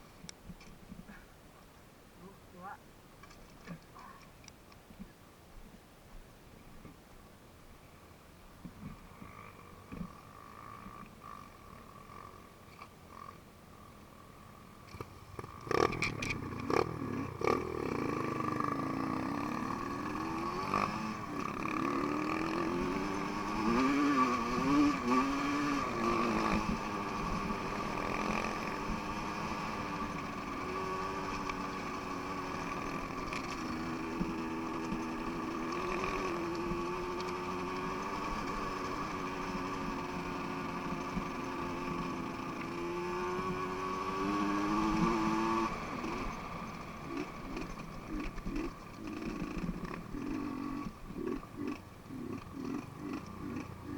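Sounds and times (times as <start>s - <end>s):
motorcycle engine revving: 9.1s - 53.9s.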